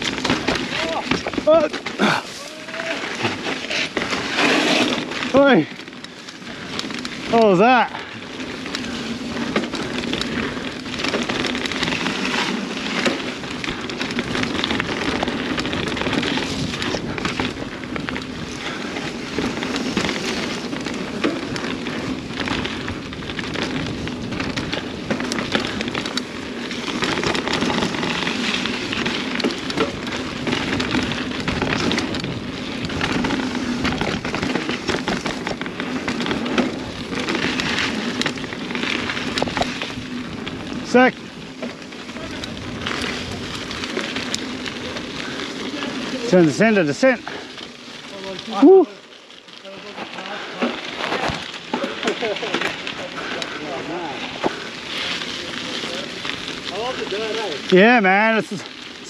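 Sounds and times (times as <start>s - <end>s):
bike rattling over bumps: 0.0s - 59.0s
bike tyres crunching over dirt: 0.0s - 59.0s.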